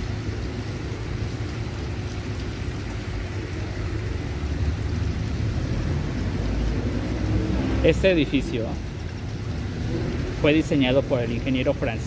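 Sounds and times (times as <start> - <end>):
low outdoor ambient rumble: 0.0 - 12.0.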